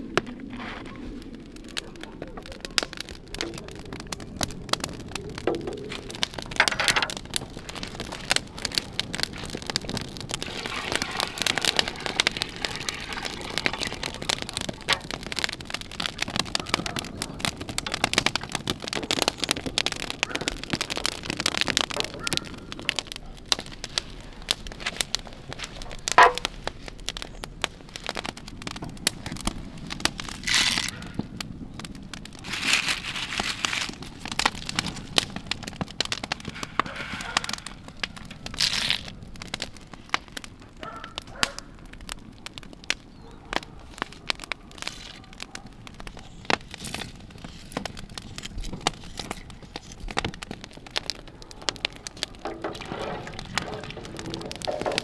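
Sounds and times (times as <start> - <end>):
fire hissing: 0.0 - 40.6, 45.8 - 55.0
wood fire crackling and popping: 0.0 - 55.0.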